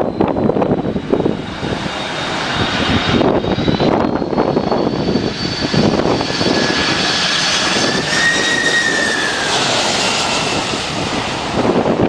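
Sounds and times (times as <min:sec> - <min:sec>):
jet engines rushing with whine: 0:00.0 - 0:12.0.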